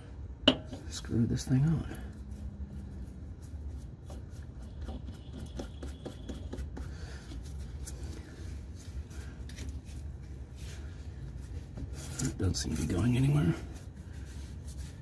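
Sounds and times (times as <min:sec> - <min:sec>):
small scrapes rubs and clicks: 0:01.9 - 0:15.0.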